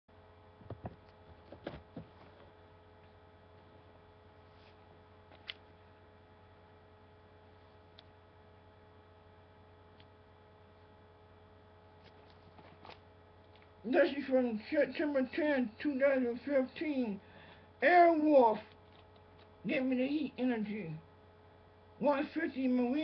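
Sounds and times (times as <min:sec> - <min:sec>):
faint electrical hum: 0:00.1 - 0:23.0.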